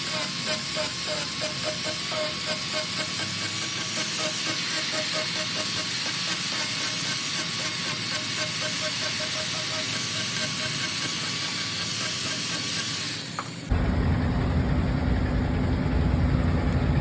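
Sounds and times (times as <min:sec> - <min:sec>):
woodworking machine hissing: 0:00.0 - 0:13.7.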